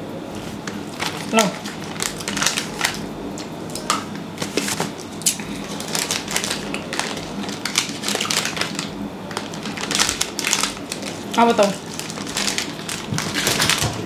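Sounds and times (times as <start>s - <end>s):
wrapper crinkling: 0.4s - 3.1s, 3.7s - 14.0s.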